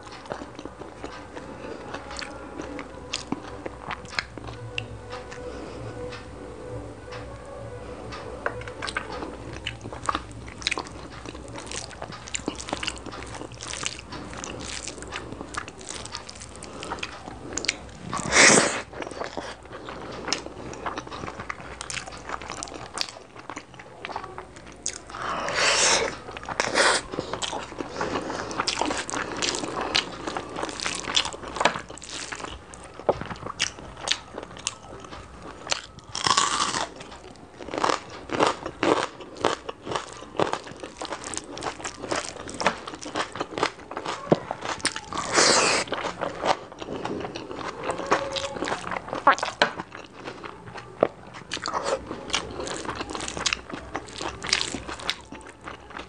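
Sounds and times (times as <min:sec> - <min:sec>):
wet chewing and mouth smacks: 0:08.7 - 0:56.0.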